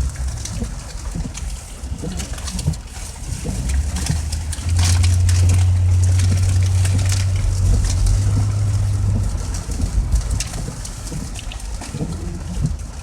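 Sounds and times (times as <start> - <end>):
car interior drone: 0.0 - 13.0
light ticks of rain on car: 0.0 - 13.0.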